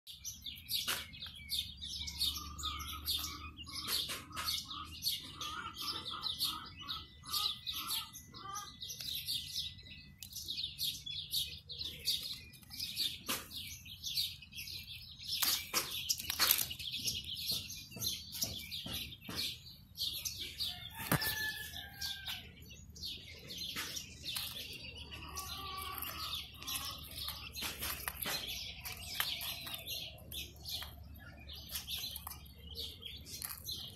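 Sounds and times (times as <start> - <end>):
lower repeated bird calls: 0.1 - 33.9
quail chicks peeping: 0.1 - 33.9.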